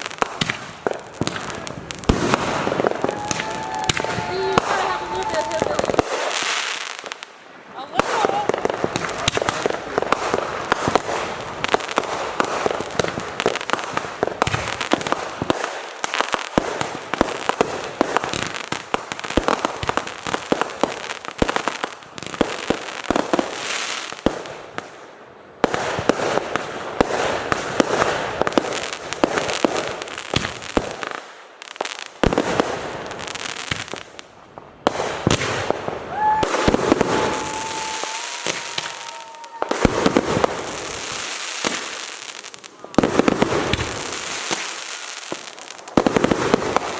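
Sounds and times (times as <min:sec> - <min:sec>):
fireworks popping and crackling: 0:00.0 - 0:46.9.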